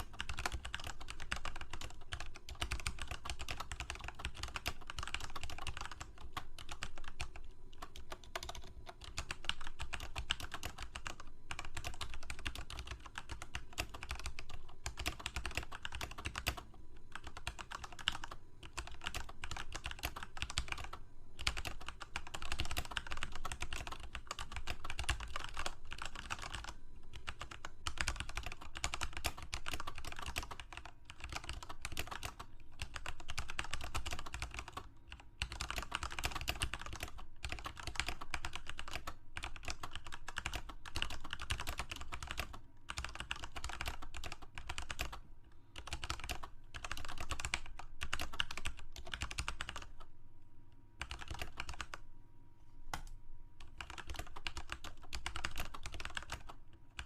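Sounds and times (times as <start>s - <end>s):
computer keyboard typing: 0.0s - 50.1s, 51.0s - 52.0s, 52.9s - 57.0s.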